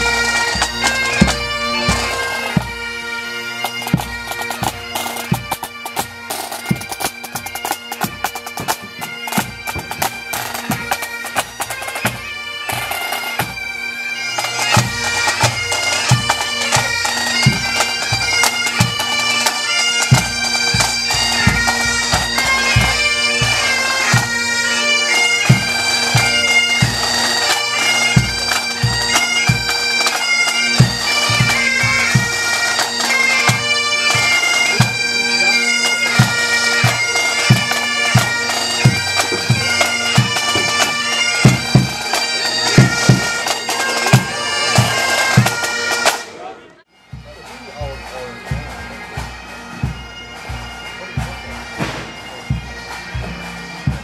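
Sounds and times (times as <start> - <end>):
drums beating time: 0.0 - 2.9, 3.6 - 13.6, 14.4 - 46.3, 47.0 - 54.0
bagpipes playing a tune: 0.0 - 54.0.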